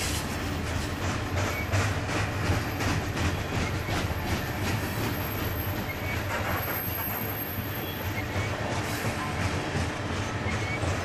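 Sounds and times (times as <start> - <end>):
freight train rumbling past: 0.0 - 11.0
wheels clicking over rail joints: 0.0 - 11.0.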